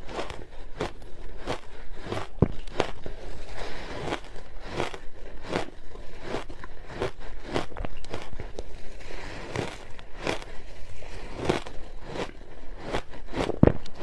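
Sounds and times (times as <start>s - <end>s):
ice crunching between teeth: 0.0s - 14.0s.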